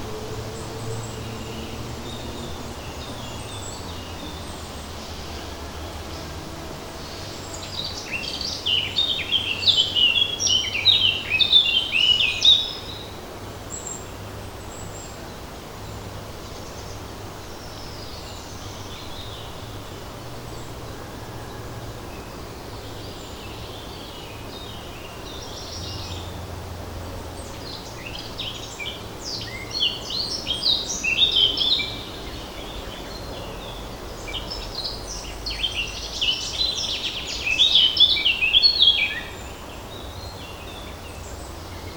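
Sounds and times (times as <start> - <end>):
songbird chirping: 0.0 - 41.9.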